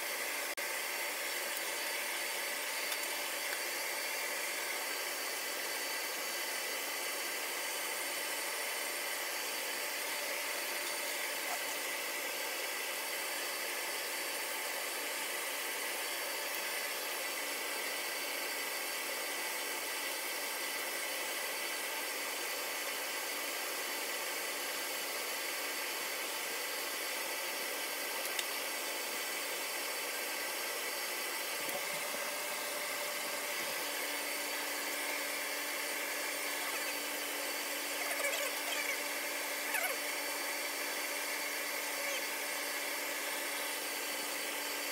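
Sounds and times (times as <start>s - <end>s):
high-speed cooling fans whooshing: 0.0s - 44.9s.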